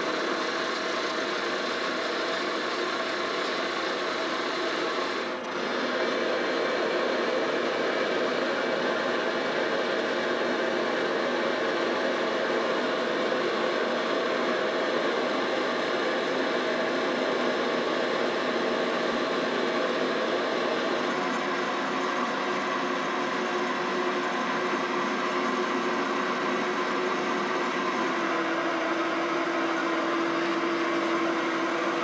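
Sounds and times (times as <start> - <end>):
machine tool running with whine: 0.0 - 32.0.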